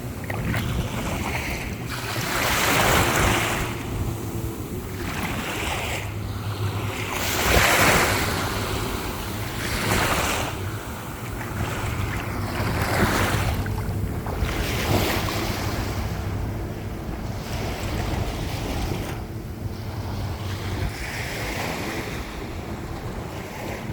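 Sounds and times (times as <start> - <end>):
small waves washing on shore: 0.0 - 23.9
wind on microphone: 0.0 - 23.9.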